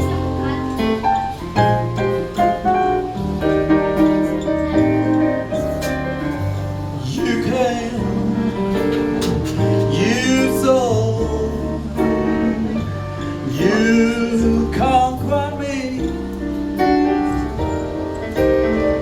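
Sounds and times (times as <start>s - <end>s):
bass notes: 0.0s - 19.0s
slow jazz ballad: 0.0s - 19.0s.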